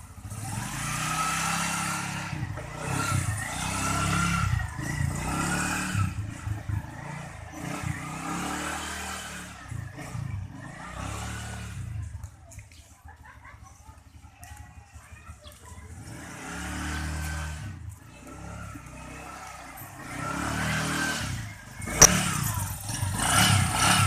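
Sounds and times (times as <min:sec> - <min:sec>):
scooter engine revving: 0:00.0 - 0:12.3, 0:15.0 - 0:24.0.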